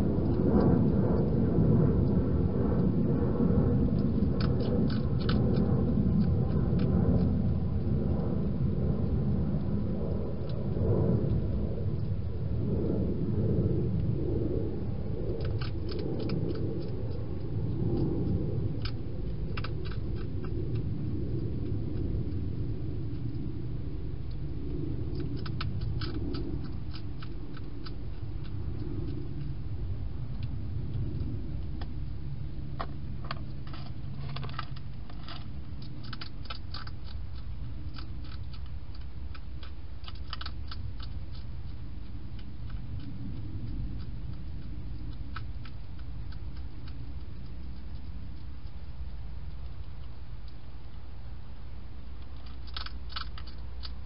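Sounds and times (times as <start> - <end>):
hedgehog crunching dry food: 0.0 - 54.0
steady low rumble: 0.0 - 54.0.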